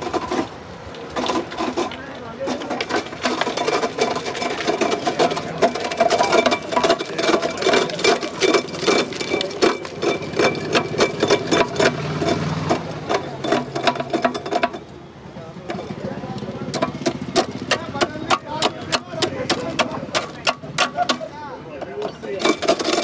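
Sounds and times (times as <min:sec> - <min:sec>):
ice crackling and clattering: 0:00.0 - 0:23.0
ice crushing machine running: 0:00.0 - 0:23.0.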